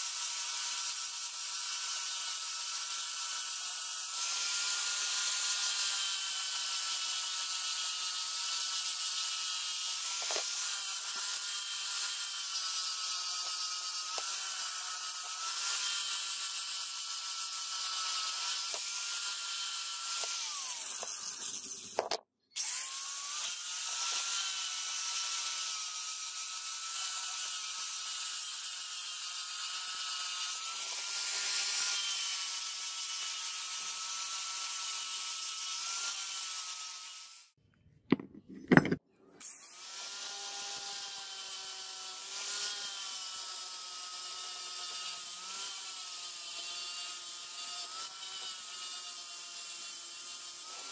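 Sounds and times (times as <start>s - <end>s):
angle grinder grinding metal: 0.0s - 50.9s.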